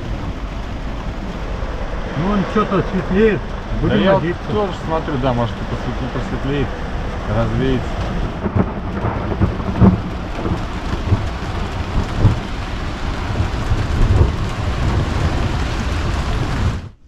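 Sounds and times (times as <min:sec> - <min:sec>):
deep thunder rumble: 0:00.0 - 0:17.0
heavy rain pouring: 0:00.0 - 0:17.0.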